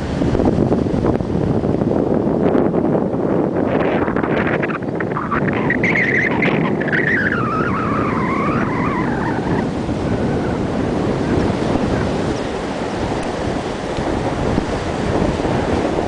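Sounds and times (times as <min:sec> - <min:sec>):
water rushing past boat: 0:00.0 - 0:16.0
wind buffeting microphone: 0:00.0 - 0:16.0.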